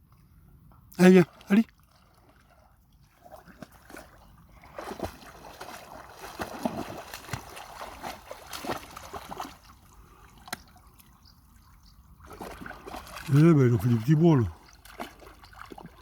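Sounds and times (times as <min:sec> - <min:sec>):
dog splashing through water: 0:01.2 - 0:11.2, 0:12.0 - 0:16.0.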